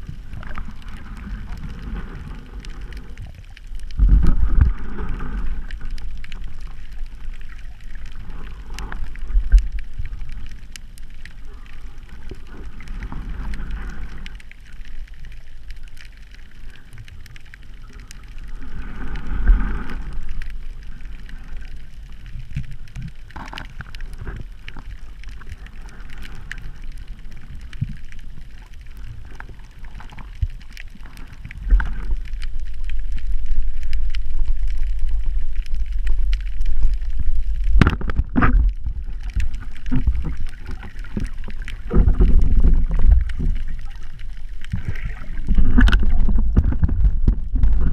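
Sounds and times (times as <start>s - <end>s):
underwater rumbling water flow: 0.0s - 47.9s.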